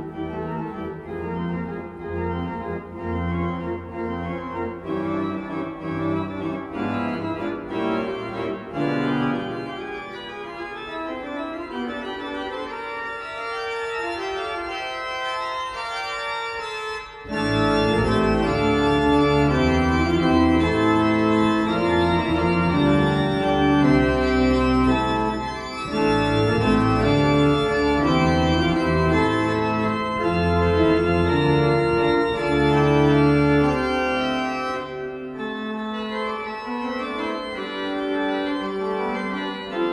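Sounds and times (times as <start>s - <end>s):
pipe organ playing chords: 0.0s - 39.9s.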